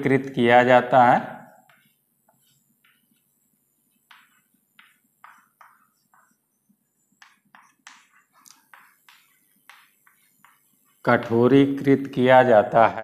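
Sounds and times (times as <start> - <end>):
chalk scratching on a chalkboard: 1.6 - 12.0.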